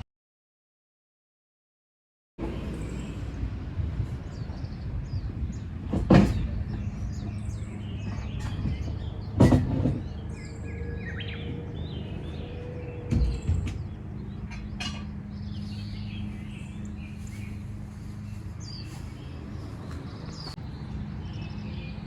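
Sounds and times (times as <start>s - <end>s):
steady low rumble: 2.4s - 9.4s, 10.0s - 22.0s
small birds chirping: 2.5s - 22.0s.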